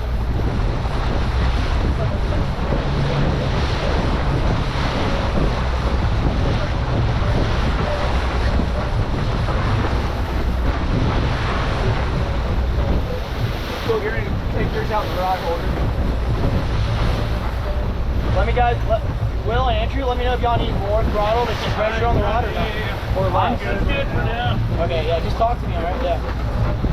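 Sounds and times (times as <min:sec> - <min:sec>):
boat engine running: 0:00.0 - 0:26.9
water rushing past hull: 0:00.0 - 0:26.9
wind buffeting microphone: 0:00.0 - 0:26.9.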